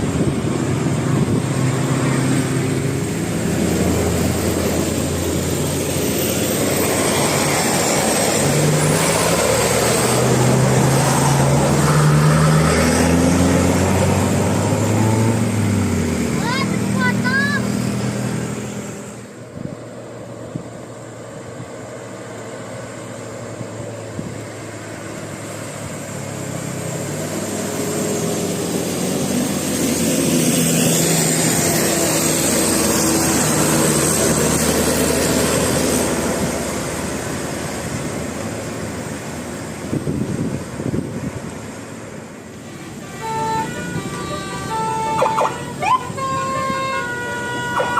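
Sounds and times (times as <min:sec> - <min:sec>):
bus driving past: 0:00.0 - 0:47.9.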